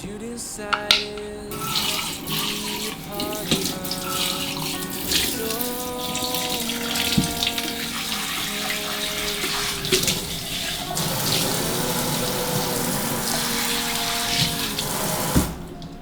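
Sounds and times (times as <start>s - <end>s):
background song: 0.0s - 16.0s
tap water running into sink: 0.8s - 16.0s.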